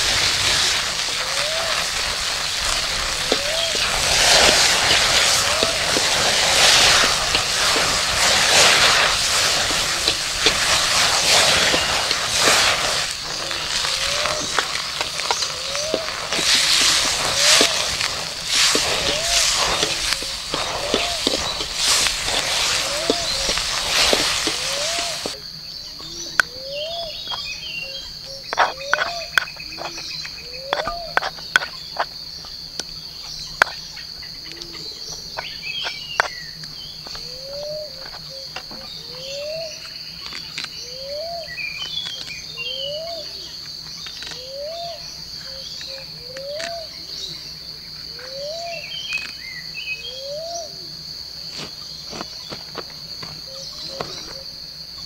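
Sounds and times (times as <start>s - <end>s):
birds chirping: 0.0s - 50.8s
insects droning: 0.0s - 55.0s.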